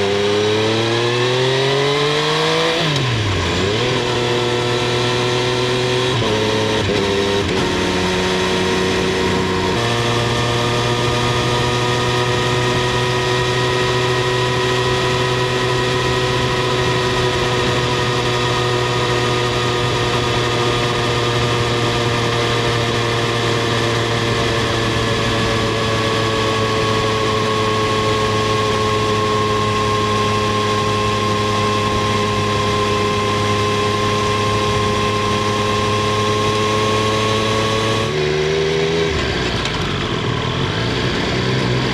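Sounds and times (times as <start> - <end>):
motorcycle engine cruising: 0.0 - 41.9
wind and road noise: 0.0 - 41.9.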